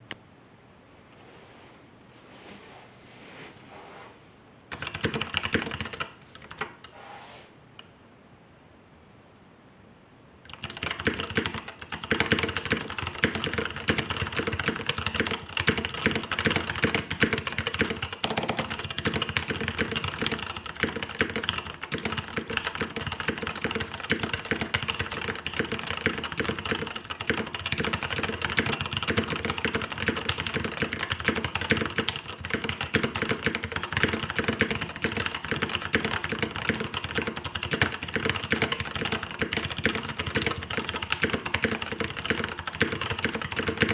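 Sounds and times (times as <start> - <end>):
fast mechanical keyboard typing: 4.7 - 6.7, 10.5 - 43.9.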